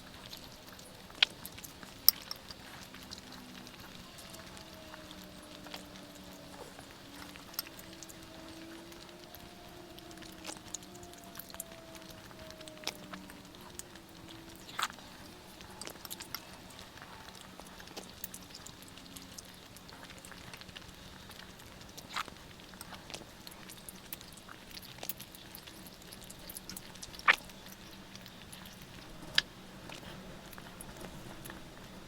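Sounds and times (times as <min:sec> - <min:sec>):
chewing mouth clicks and smacks: 0:00.0 - 0:32.0.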